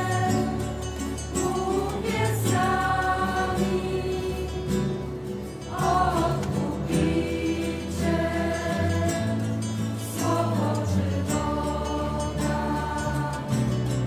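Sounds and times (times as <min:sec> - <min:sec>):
choir singing: 0:00.0 - 0:14.0
instrumental bass: 0:00.0 - 0:14.0.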